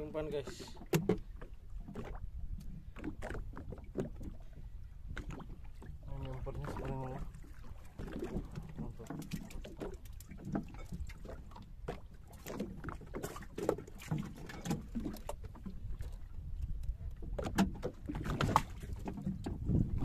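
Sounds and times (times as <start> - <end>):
water lapping against boat: 0.0 - 20.0.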